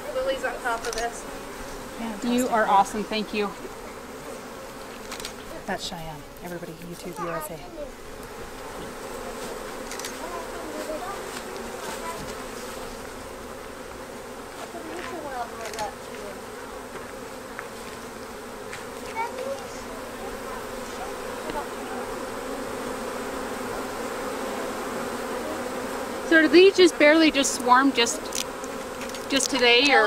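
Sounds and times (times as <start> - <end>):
bee swarm buzzing: 0.0 - 30.0
single bees passing close: 0.0 - 30.0.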